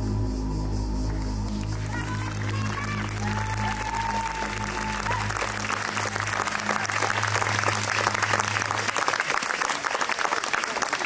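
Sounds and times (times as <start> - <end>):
audience applauding: 1.1 - 11.0.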